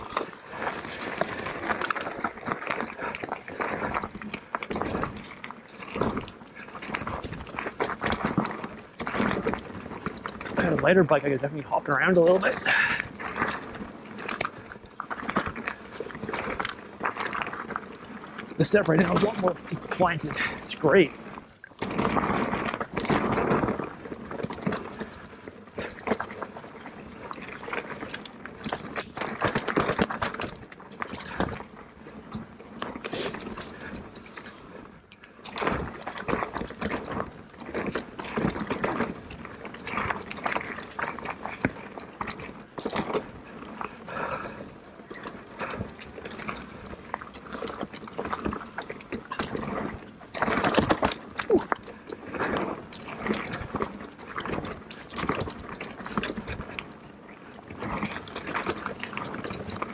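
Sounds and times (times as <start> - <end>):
bike knocks and rattles: 0.0 - 34.6, 35.4 - 44.6, 45.2 - 56.9
tyres rumbling over dirt: 0.0 - 57.0.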